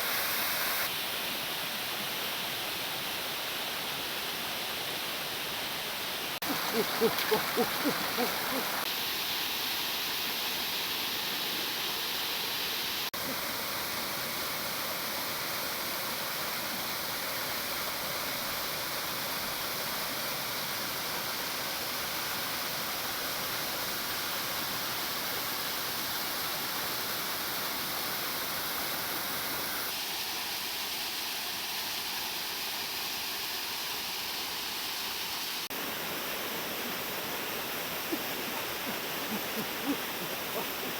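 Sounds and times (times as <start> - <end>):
rushing flowing water: 0.0 - 40.9.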